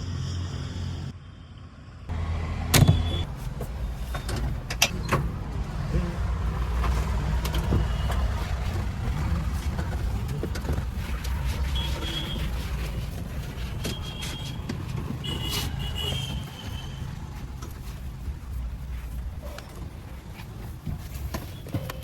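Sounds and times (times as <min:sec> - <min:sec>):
heavy diesel engine running: 0:02.1 - 0:21.5.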